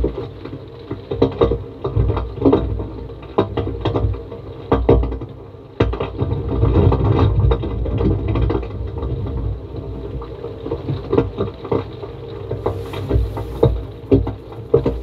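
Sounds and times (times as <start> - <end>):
low continuous rumble: 0.0 - 15.0.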